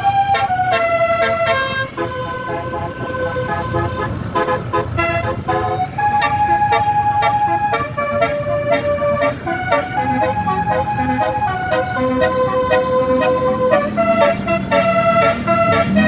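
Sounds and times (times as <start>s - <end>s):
bus multi-tone horn playing a tune: 0.0s - 16.0s.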